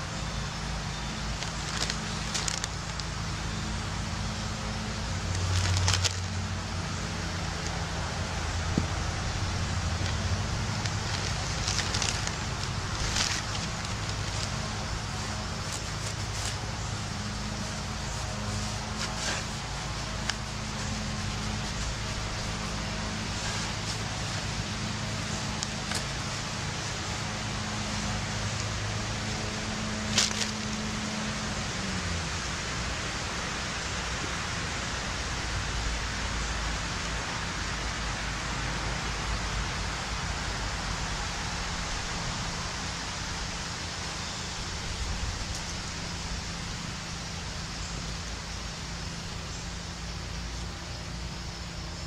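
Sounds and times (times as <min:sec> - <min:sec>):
distant road traffic: 0:00.0 - 0:52.0
even hiss: 0:00.0 - 0:52.0
wind: 0:00.0 - 0:52.0.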